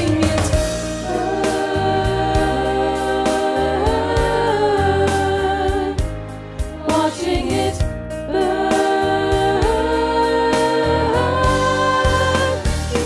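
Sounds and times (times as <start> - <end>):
accompaniment track with bass and beat: 0.0 - 13.0
treble choir singing in harmony: 0.0 - 13.0.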